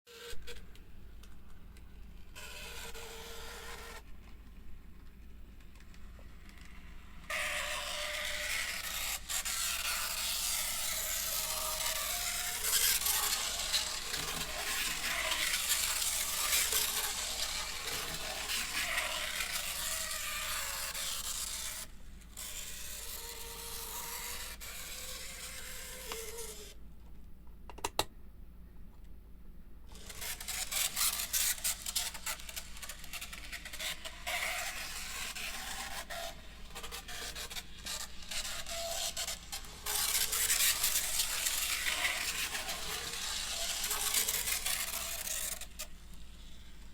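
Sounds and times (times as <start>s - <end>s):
model train motor scraping: 2.4s - 4.0s, 6.4s - 26.8s, 29.9s - 46.8s.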